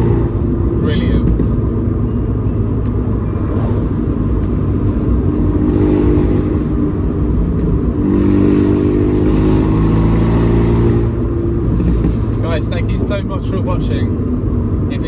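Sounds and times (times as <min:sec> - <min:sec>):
car engine revving: 0:00.0 - 0:15.0
road noise: 0:00.0 - 0:15.0.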